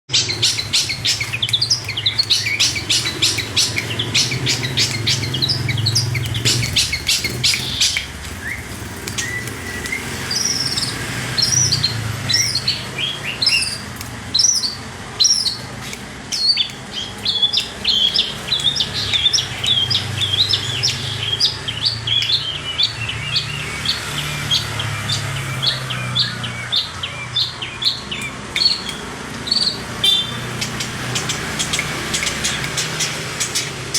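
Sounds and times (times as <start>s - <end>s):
bird chattering: 0.1s - 33.9s.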